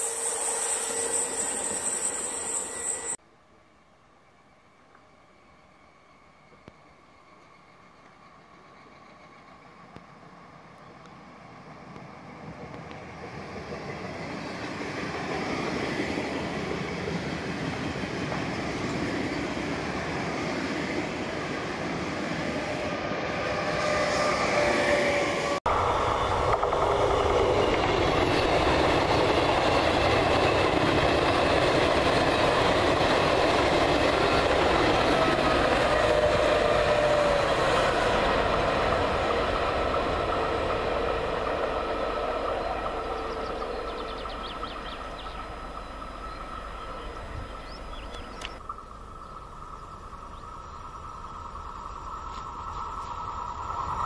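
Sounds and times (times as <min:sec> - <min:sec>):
electric train running past: 0:00.0 - 0:03.2, 0:04.2 - 0:54.0
train running noise: 0:00.0 - 0:03.2, 0:04.3 - 0:54.0.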